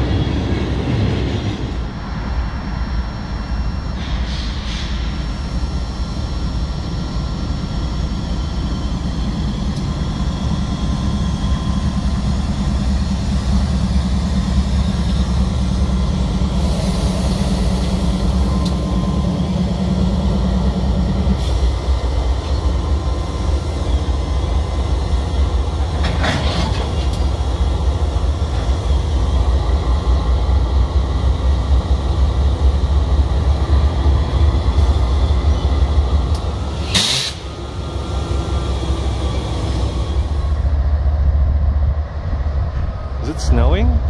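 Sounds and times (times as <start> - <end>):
diesel locomotive low rumble: 0.0 - 44.0.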